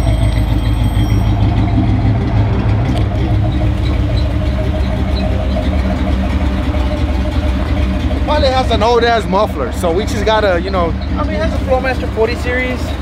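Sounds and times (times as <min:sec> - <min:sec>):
vee-eight engine idling: 0:00.0 - 0:13.0.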